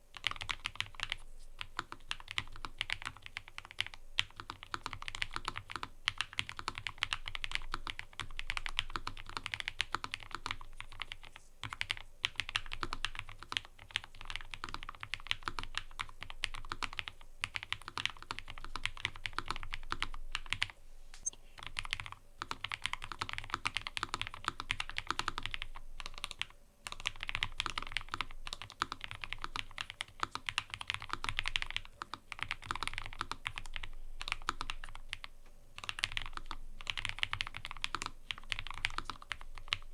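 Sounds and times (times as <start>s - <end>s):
mechanical keyboard typing: 0.2s - 20.7s, 21.6s - 39.9s.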